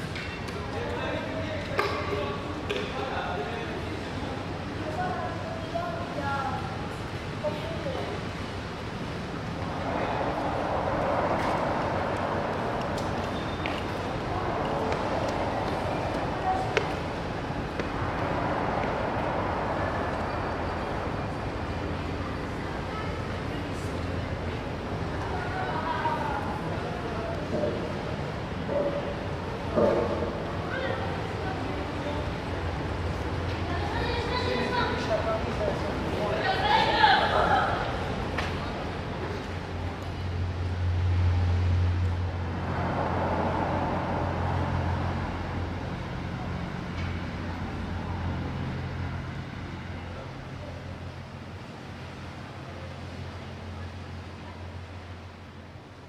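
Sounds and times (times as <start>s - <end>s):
distant traffic rumble: 0.0s - 56.0s.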